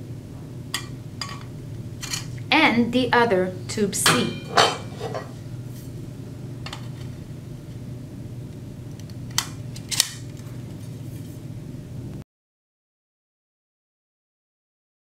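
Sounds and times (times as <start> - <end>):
faint steady hum: 0.0 - 12.2.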